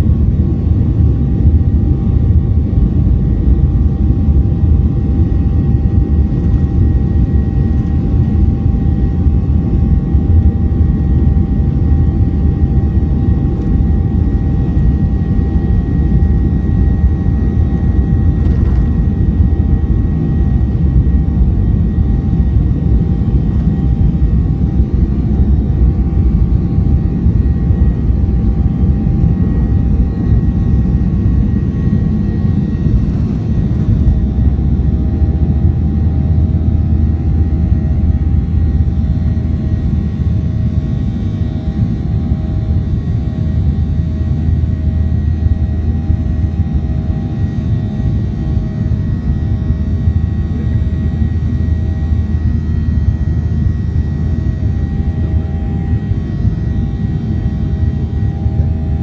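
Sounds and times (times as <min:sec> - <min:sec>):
jet engines rumbling at takeoff: 0:00.0 - 0:59.0
steady whining tones: 0:00.5 - 0:59.0.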